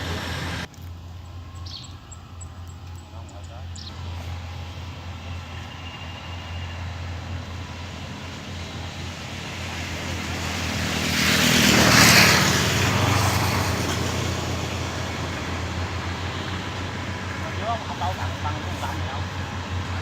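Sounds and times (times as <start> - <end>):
combine harvester engine drone: 0.0 - 20.0.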